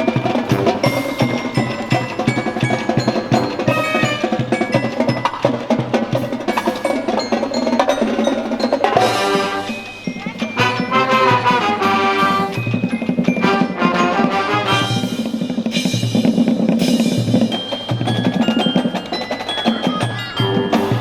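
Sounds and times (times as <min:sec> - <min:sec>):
marching band playing: 0:00.0 - 0:21.0
snare and bass drums: 0:00.0 - 0:21.0.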